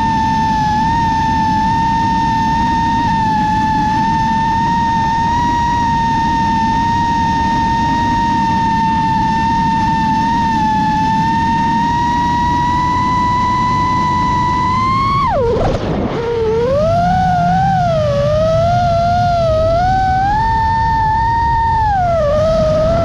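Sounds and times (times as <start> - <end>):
quadcopter motors whining: 0.0 - 23.0
wind rush: 0.0 - 23.0.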